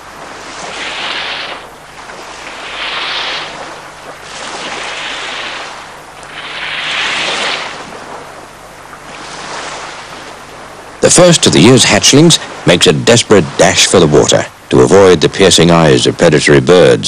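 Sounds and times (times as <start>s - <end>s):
waves washing onto sand: 0.0s - 15.9s.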